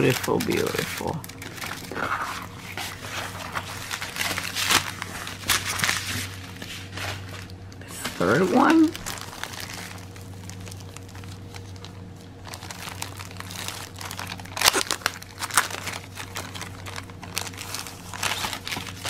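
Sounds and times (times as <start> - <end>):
faint steady hum: 0.0 - 19.0
plastic wrapping crinkling: 0.0 - 19.0.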